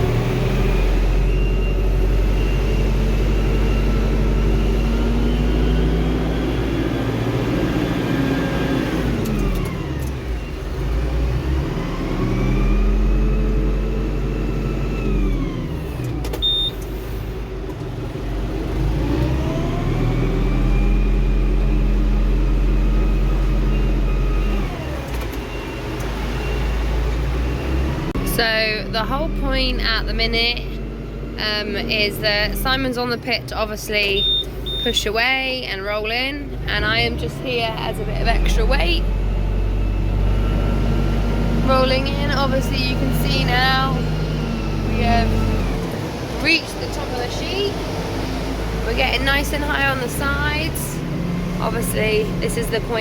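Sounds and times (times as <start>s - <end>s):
tractor engine revving: 0.0s - 53.0s.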